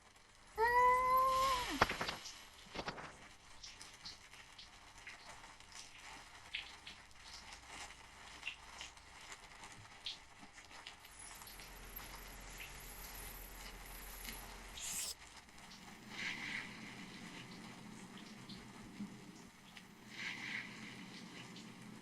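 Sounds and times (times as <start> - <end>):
low hiss: 0.0 - 22.0
small clicks and ticks: 0.0 - 22.0.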